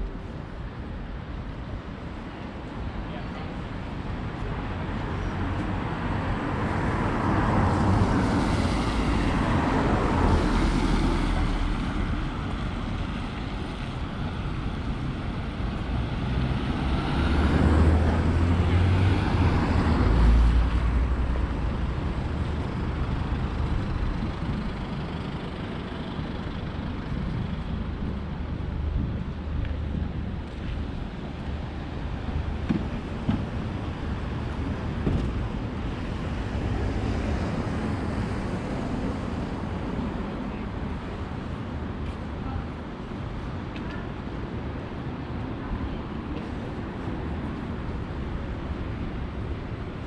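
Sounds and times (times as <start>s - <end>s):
low traffic rumble: 0.0s - 50.0s
vehicles passing: 0.0s - 50.0s.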